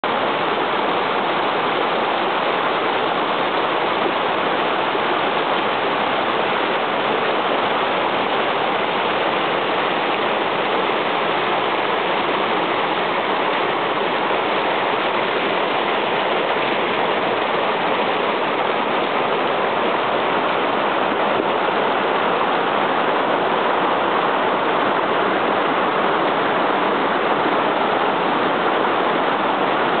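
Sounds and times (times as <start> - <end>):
creek rushing over rocks: 0.0 - 30.0.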